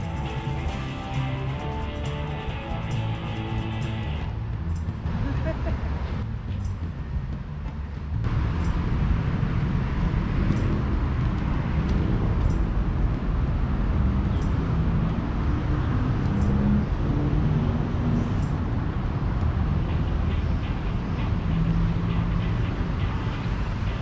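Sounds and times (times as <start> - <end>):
traffic rumbling over bridge: 0.0 - 24.0.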